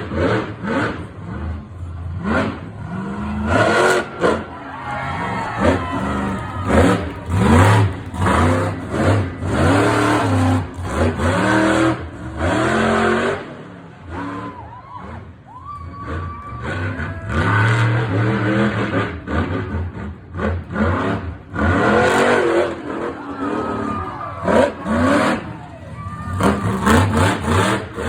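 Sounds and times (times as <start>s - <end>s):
monster truck engine revving: 0.0s - 28.0s.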